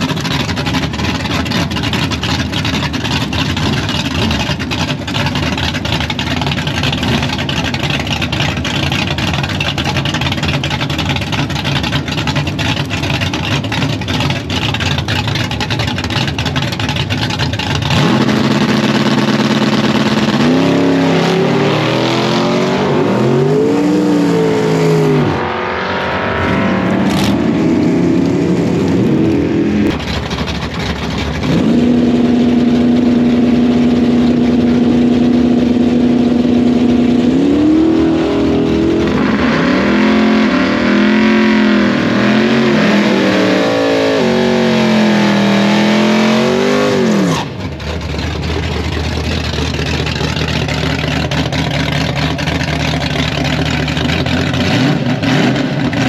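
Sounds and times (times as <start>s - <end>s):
drag car engine revving: 0.0s - 56.0s
second car engine held steady: 0.0s - 56.0s.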